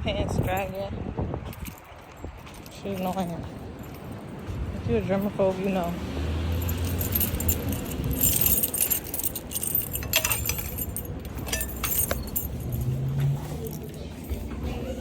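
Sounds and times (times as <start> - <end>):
low background rumble: 0.0 - 15.0
keys jangling: 1.5 - 4.6, 5.7 - 14.8.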